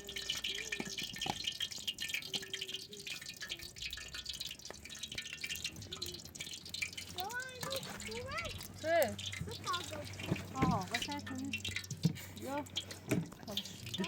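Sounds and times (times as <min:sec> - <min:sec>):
fish frying in sizzling oil: 0:00.0 - 0:14.0.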